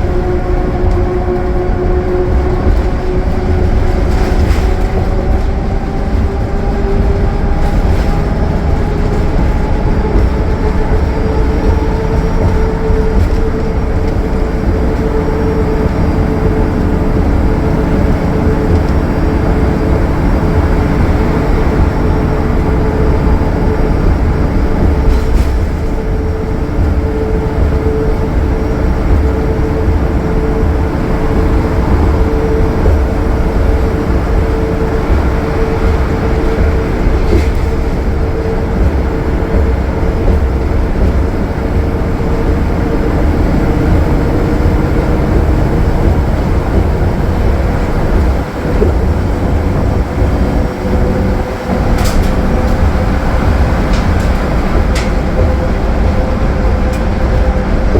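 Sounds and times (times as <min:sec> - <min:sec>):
bus engine and road rumble: 0:00.0 - 0:57.9.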